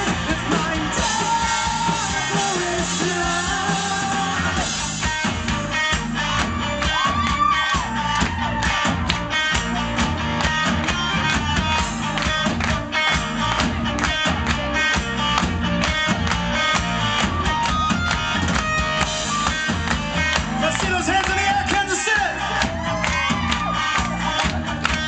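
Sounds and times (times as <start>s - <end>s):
electric guitar: 0.0s - 25.0s
live rock band playing: 0.0s - 25.0s.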